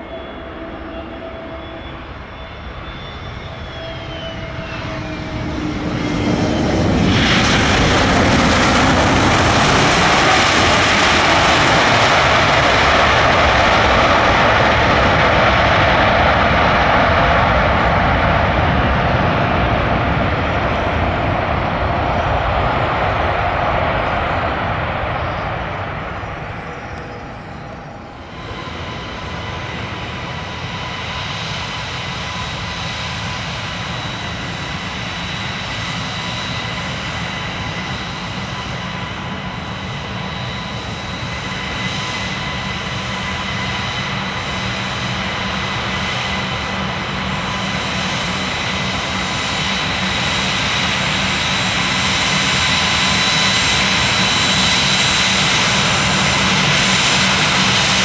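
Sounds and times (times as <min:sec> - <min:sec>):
jet engines whining: 0:00.0 - 0:58.0
jet roar rushing: 0:00.0 - 0:58.0.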